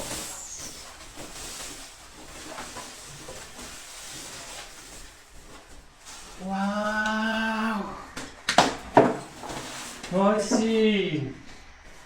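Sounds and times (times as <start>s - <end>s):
soft rustling and handling noise: 0.0s - 7.0s, 9.0s - 12.0s.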